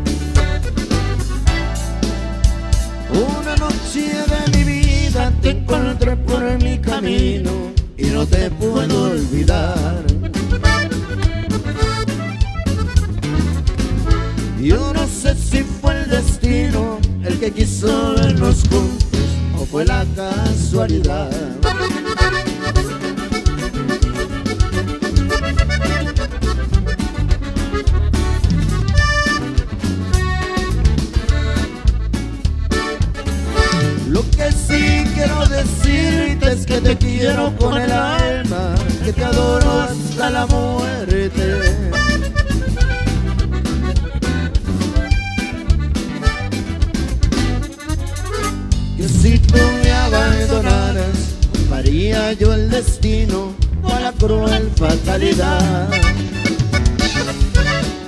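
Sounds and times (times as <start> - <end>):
accordion melody: 0.0 - 58.0
bajo sexto strumming: 0.0 - 58.0
drum kit beat: 0.0 - 58.0
electric bass guitar: 0.0 - 58.0.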